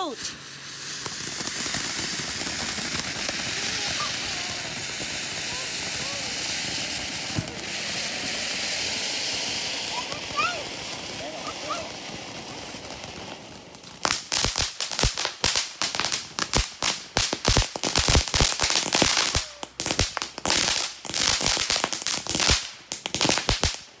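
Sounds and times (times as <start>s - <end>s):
firework crackling pops: 0.0s - 24.0s
firework fountain hissing: 0.0s - 24.0s.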